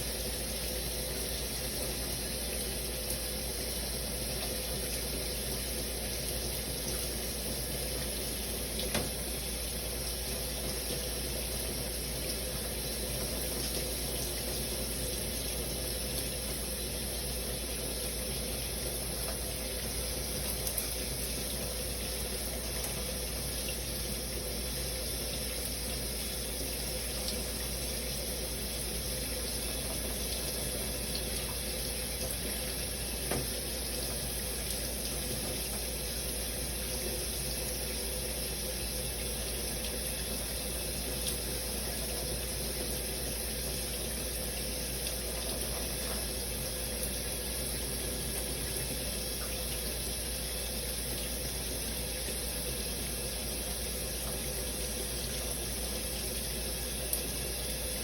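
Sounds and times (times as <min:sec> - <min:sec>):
shower water spraying: 0:00.0 - 0:58.0.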